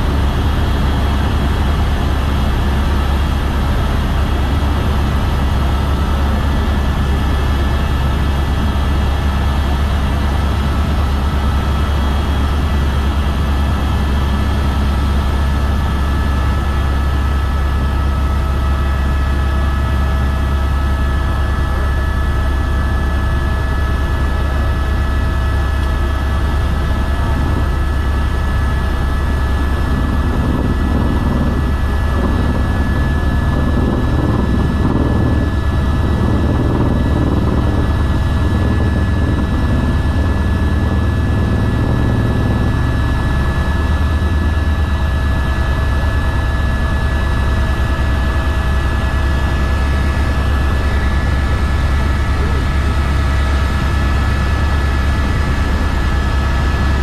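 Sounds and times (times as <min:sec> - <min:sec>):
helicopter rotor drone: 0:00.0 - 0:57.0
turbine whine: 0:00.0 - 0:57.0.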